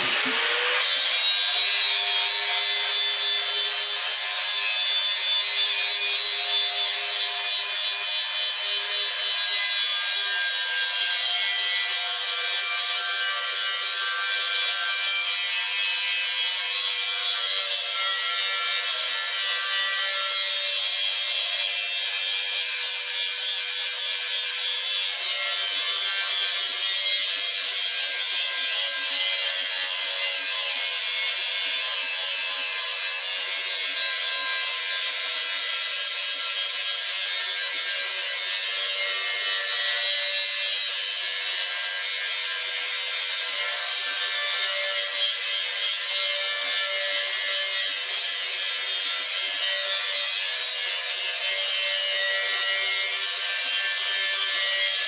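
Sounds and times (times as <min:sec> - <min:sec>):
angle grinder grinding steel: 0:00.0 - 0:55.0.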